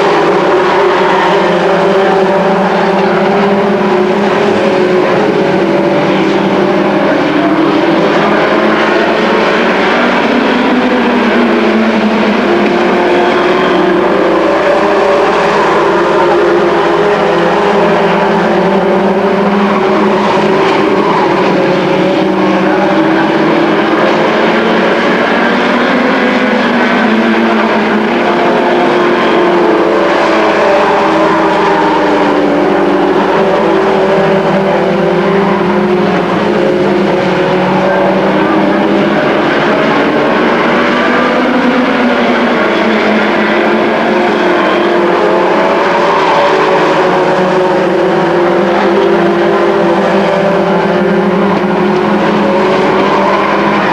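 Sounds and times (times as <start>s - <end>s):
race truck engines: 0.0s - 53.9s.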